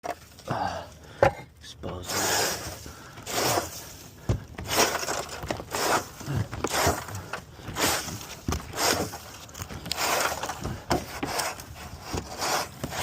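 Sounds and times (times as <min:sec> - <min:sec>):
debris scraped from roof flashing: 0:02.0 - 0:13.0.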